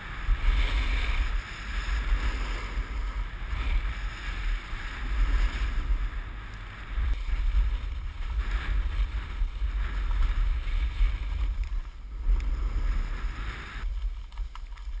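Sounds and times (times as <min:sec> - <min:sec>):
snowboard scraping over snow: 0:00.0 - 0:15.0
wind buffeting microphone: 0:00.0 - 0:15.0.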